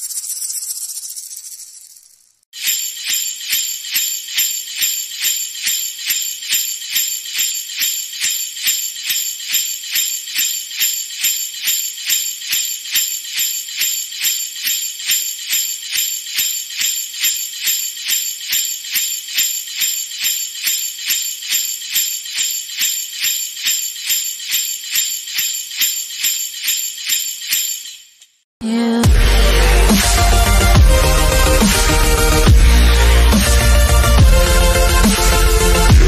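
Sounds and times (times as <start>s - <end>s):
sleigh bells shaking: 0.0s - 28.4s, 29.0s - 36.0s.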